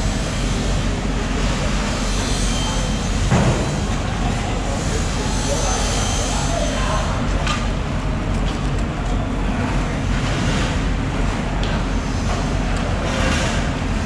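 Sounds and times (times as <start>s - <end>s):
loud rushing noise with low rumble: 0.0s - 14.0s.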